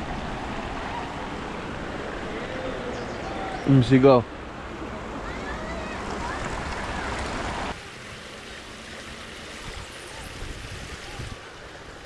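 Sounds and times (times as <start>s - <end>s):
creek water over rocks: 0.0s - 12.0s.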